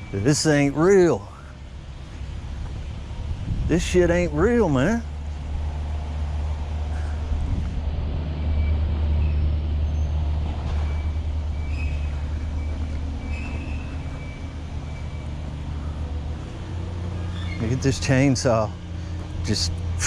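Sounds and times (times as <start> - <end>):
large engine rumbling: 0.0 - 20.0.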